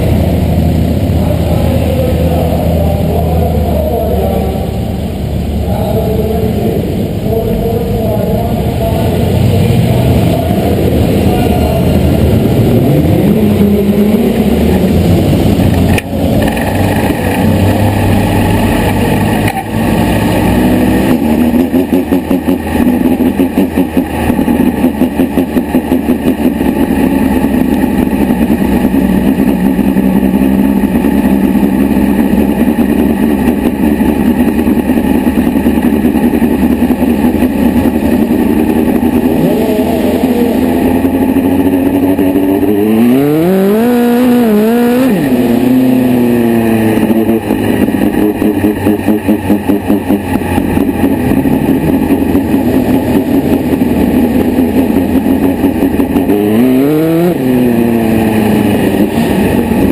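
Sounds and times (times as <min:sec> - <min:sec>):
engine throttle blips: 0:00.0 - 0:59.9
race car engine: 0:00.0 - 0:59.9.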